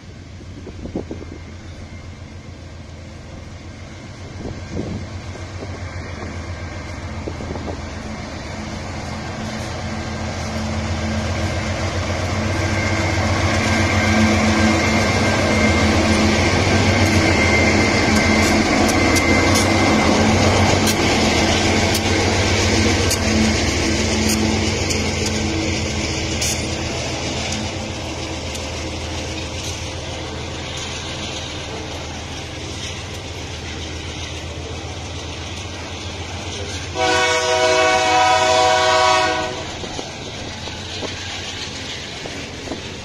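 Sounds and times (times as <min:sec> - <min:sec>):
locomotive engine rumble: 0:00.0 - 0:43.0.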